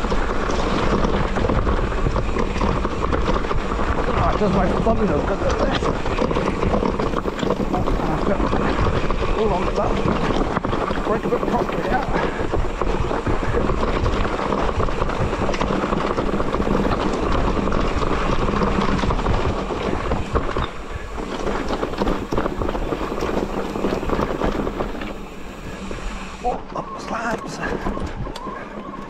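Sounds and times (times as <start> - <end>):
wind noise on microphone: 0.0 - 26.6, 27.3 - 29.0
bike rattling over stones: 0.0 - 29.0.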